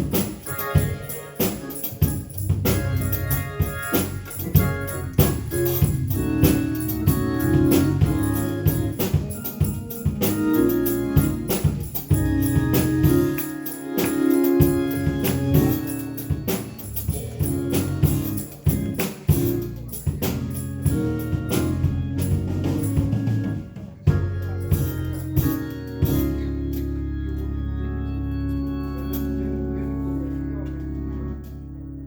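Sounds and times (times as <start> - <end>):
steady drum beat: 0.0 - 26.6
sustained keyboard chords: 0.0 - 32.0.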